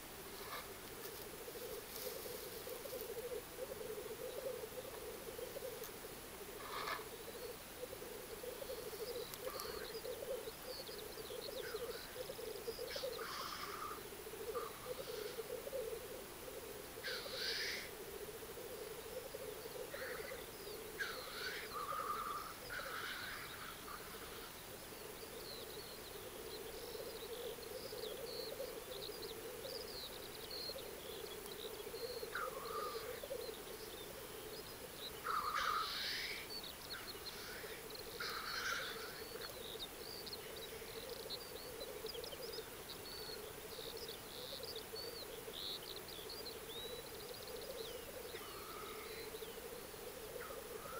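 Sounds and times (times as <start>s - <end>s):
grouse bubbling coo: 0.0s - 50.9s
grouse hissing calls: 0.0s - 50.9s.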